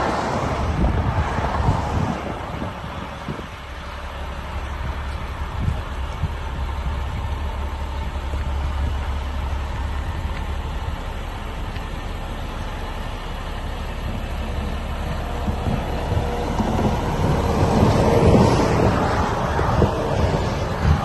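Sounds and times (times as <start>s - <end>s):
garbage truck engine rumbling: 0.0s - 21.0s.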